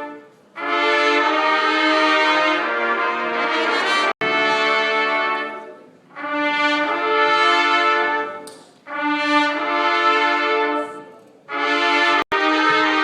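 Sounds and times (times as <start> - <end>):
brass band held chords: 0.0 - 13.0.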